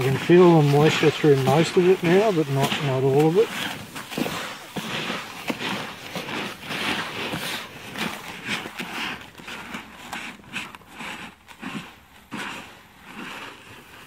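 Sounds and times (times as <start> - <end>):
hands stirring seed in plastic tub: 0.0 - 14.0.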